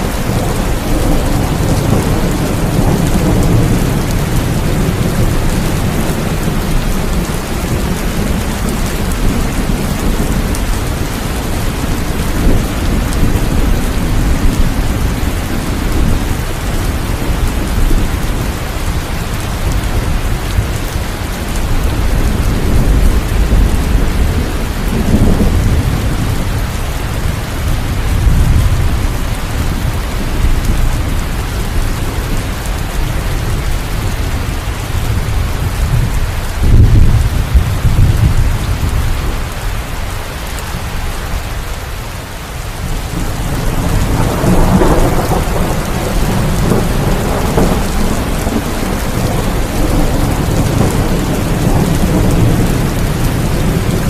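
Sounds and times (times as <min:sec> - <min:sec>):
rolling thunder: 0:00.0 - 0:39.5, 0:42.8 - 0:54.0
heavy rain: 0:00.0 - 0:54.0.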